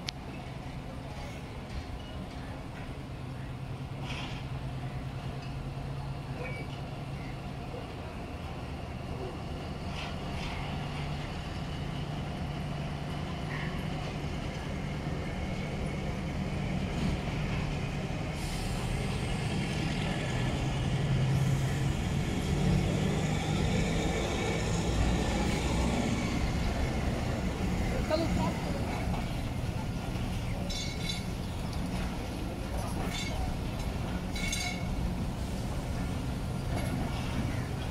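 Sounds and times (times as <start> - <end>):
train low drone: 0.0 - 37.9.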